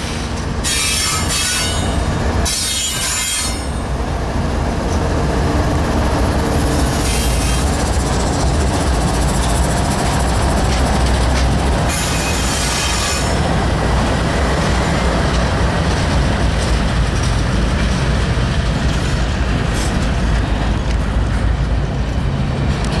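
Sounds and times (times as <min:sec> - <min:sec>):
diesel locomotives rumbling past: 0:00.0 - 0:23.0
wheel-on-rail noise: 0:00.0 - 0:23.0.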